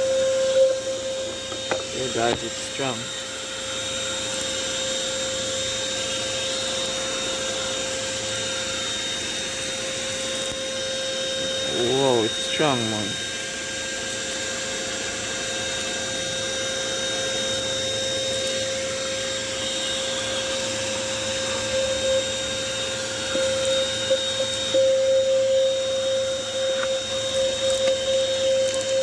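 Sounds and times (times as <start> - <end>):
vacuum cleaner whining hum: 0.0 - 29.0.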